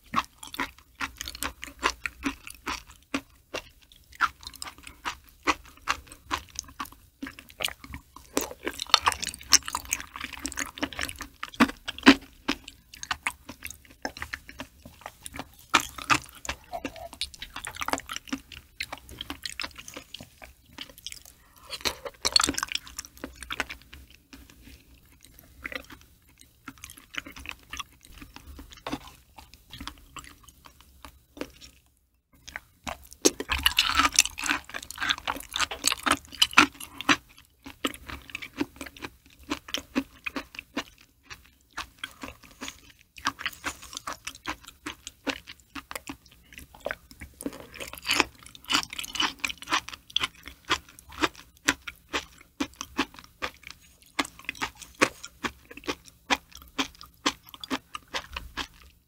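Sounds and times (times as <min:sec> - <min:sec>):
wet chewing with mouth clicks: 0:00.0 - 0:59.0.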